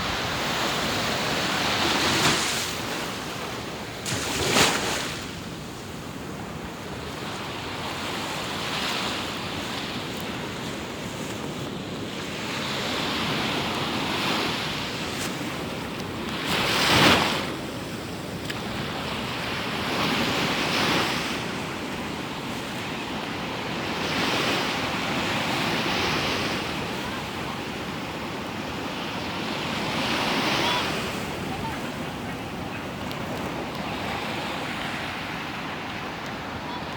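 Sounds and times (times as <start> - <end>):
waves washing in: 0.0 - 36.9.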